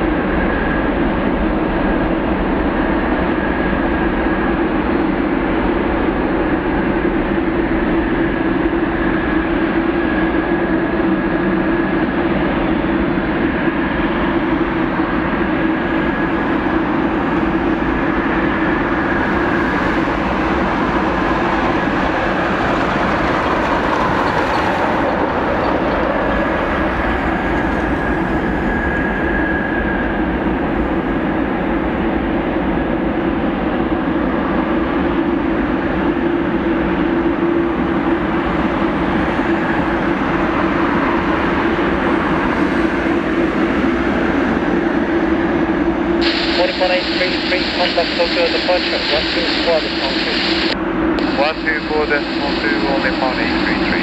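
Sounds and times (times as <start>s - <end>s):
jet engines roaring: 0.1s - 54.0s.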